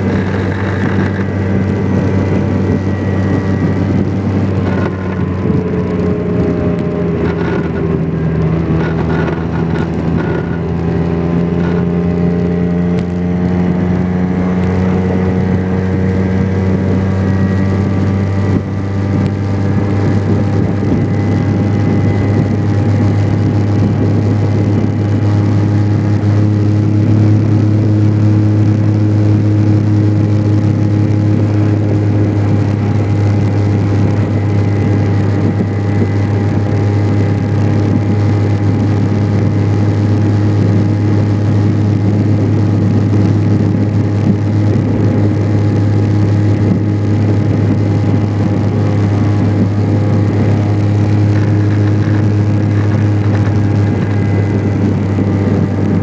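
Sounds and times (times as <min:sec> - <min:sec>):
rush of wind and road: 0:00.0 - 0:56.0
scooter engine running: 0:00.0 - 0:56.0.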